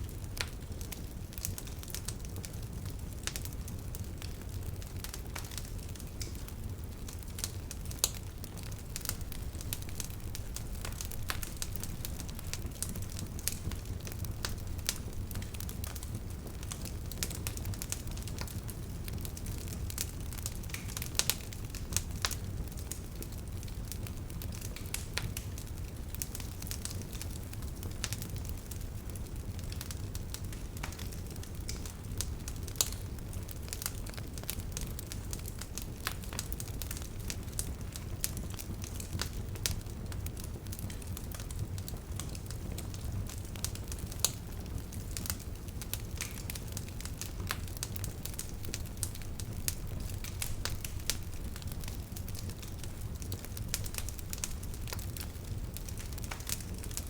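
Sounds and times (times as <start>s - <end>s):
bonfire crackling: 0.0s - 57.0s
low fire rumble: 0.0s - 57.0s.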